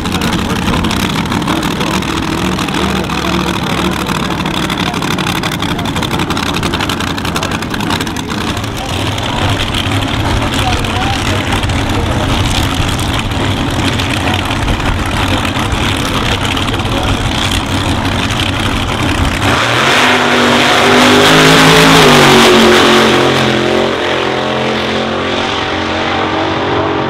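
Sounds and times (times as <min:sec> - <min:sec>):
dragster engine at full throttle: 0:00.0 - 0:27.0.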